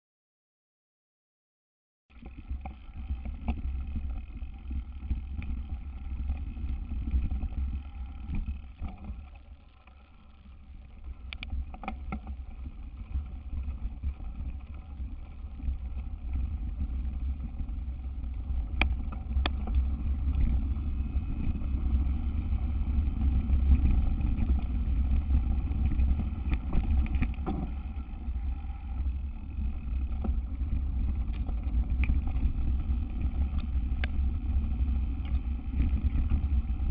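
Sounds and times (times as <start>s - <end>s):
bike rumbling on dirt trail: 2.1s - 36.9s.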